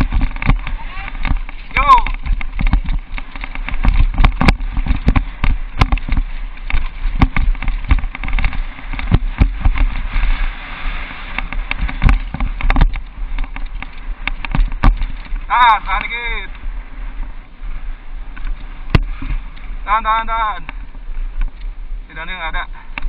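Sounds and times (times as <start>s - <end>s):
bike rattling over bumps: 0.0s - 23.0s
wind rumble on microphone: 0.0s - 23.0s.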